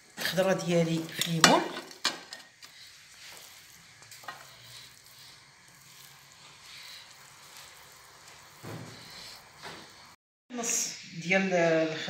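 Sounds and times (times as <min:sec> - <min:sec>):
vegetables rustling and squishing: 0:00.0 - 0:10.2.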